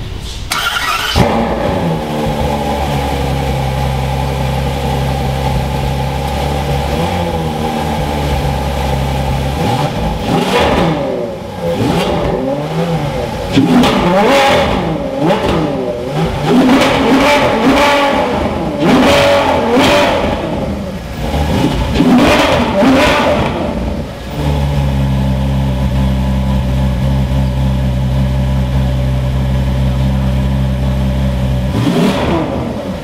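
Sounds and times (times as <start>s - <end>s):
car engine revving and idling: 0.5s - 33.0s.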